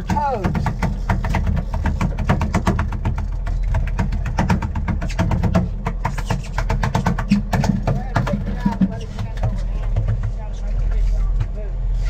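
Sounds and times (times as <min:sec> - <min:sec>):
rapid irregular knocking: 0:00.0 - 0:11.6
boat engine drone: 0:00.0 - 0:12.0.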